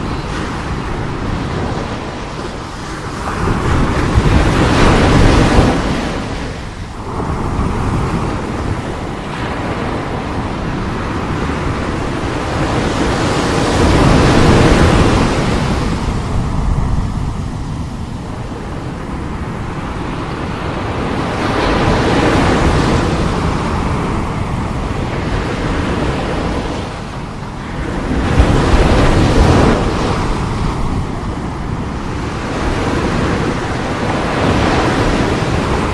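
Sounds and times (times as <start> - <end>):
sea waves breaking: 0.0 - 35.9
wind buffeting microphone: 0.0 - 35.9.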